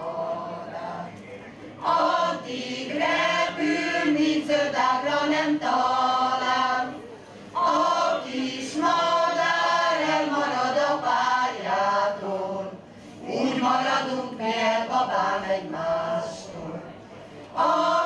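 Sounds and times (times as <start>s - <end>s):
choir singing folk song: 0.0s - 1.1s, 1.8s - 7.0s, 7.6s - 16.9s, 17.5s - 18.0s.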